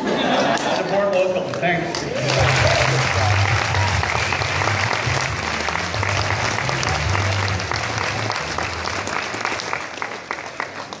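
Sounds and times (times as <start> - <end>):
audience applauding: 1.5 - 11.0.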